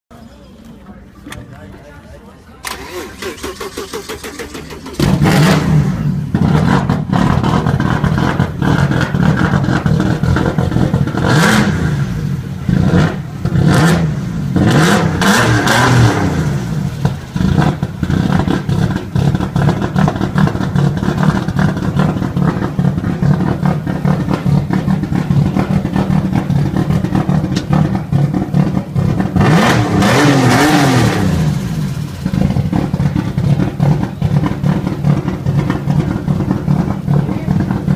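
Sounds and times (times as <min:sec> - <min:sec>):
car engine idling and revving: 0:02.6 - 0:37.9.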